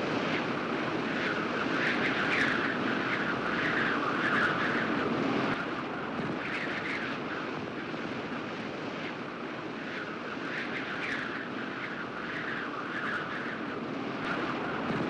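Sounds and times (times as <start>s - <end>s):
wind gusting: 0.0s - 15.0s.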